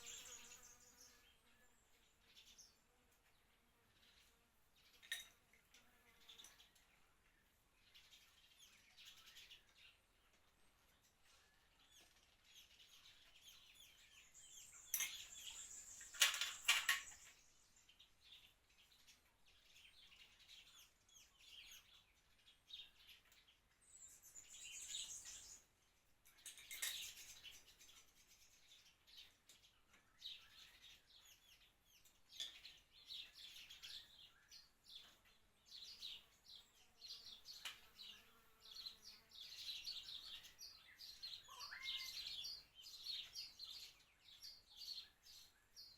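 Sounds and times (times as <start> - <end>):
birds chirping: 0.0 - 5.4, 6.1 - 45.9.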